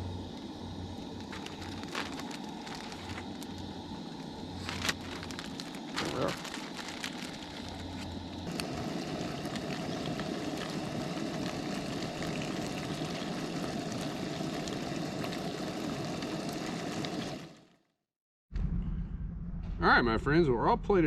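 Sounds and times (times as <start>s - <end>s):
bread sizzling in a pan: 0.0s - 17.7s
camp stove burner rushing: 0.0s - 17.8s.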